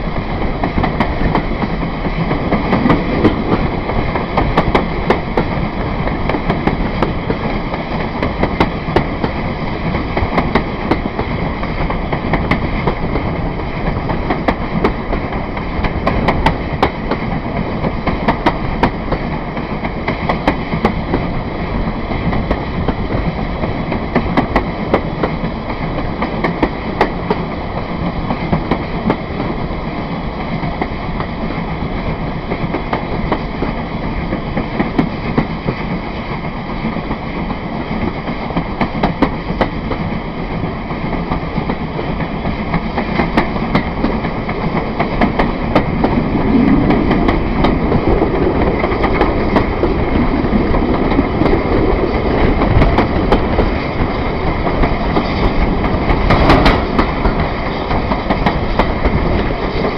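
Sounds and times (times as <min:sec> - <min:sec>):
steam train rumbling: 0:00.0 - 0:59.9
wheels clicking over rail joints: 0:00.0 - 0:59.9.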